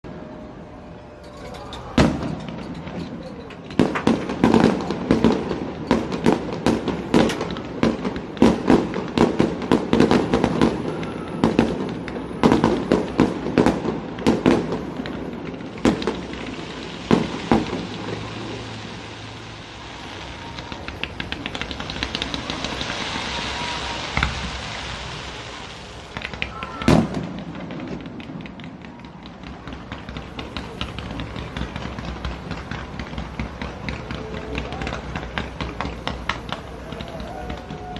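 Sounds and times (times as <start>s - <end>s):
fireworks bangs: 0.1s - 37.9s
fireworks crackling: 0.1s - 37.9s.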